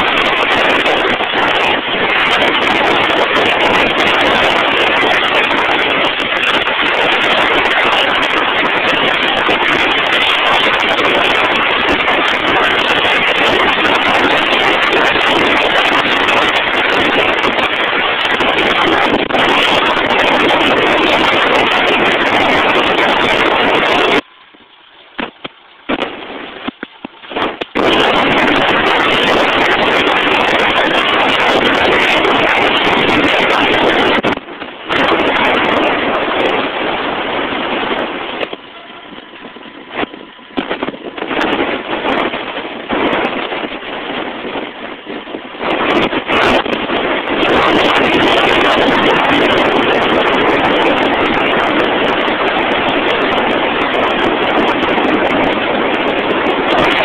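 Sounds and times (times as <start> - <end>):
drill rig machinery running: 0.0 - 57.0.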